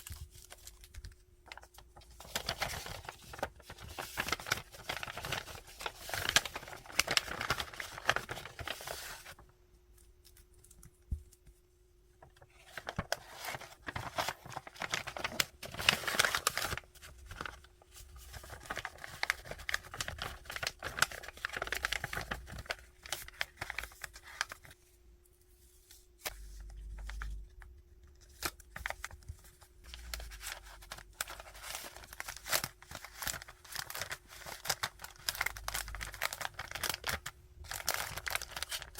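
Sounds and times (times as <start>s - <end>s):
packaging crinkling and rustling: 0.0s - 9.4s, 12.2s - 24.8s, 26.3s - 38.9s.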